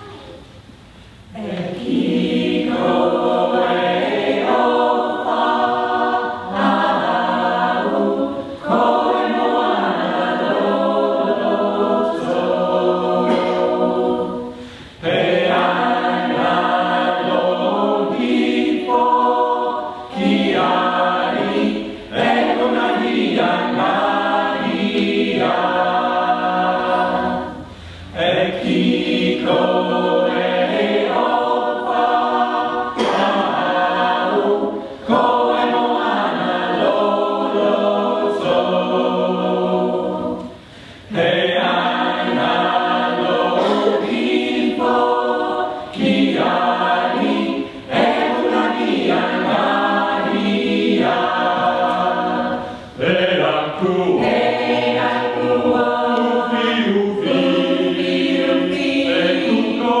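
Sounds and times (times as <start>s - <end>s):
mixed choir singing a cappella: 0.0s - 60.0s.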